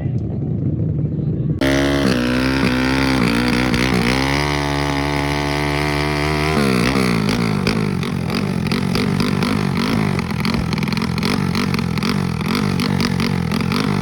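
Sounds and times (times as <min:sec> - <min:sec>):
motorcycle engine accelerating hard: 0:01.6 - 0:14.0.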